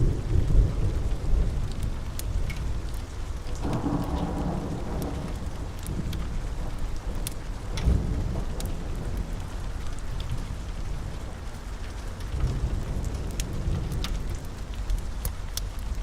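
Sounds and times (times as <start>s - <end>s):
low rumble of thunder: 0.0s - 16.0s
steady rain: 0.0s - 16.0s
wood fire crackling and popping: 1.0s - 10.8s, 11.5s - 16.0s.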